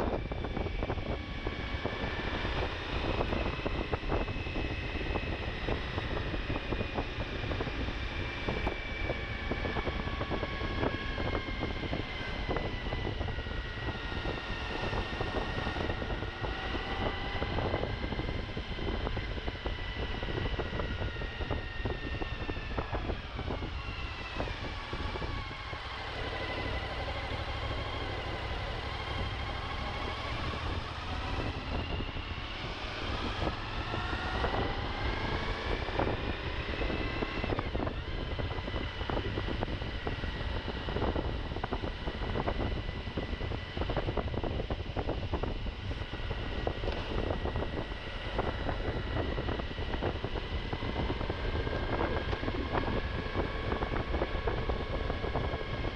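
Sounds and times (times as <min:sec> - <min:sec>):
motorcycle engine: 0:00.0 - 0:55.9
wind noise on microphone: 0:00.0 - 0:55.9.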